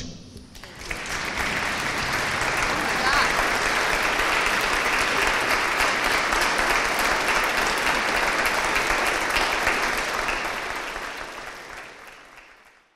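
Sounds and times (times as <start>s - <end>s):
large audience applauding: 0.5s - 12.9s.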